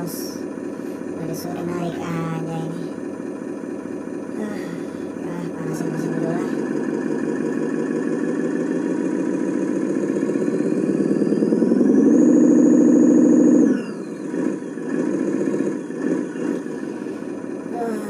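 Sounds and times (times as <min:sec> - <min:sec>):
diesel truck engine idling and revving: 0:00.0 - 0:18.0.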